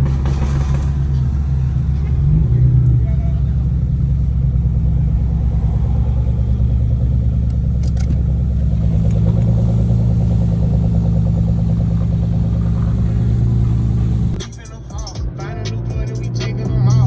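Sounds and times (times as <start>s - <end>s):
car engine droning: 0.0s - 17.0s
road noise: 0.0s - 17.0s.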